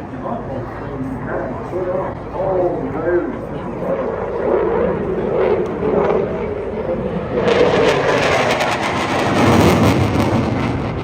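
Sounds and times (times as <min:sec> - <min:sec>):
crowd voices: 0:00.0 - 0:09.0
jet engine roar: 0:00.0 - 0:11.0.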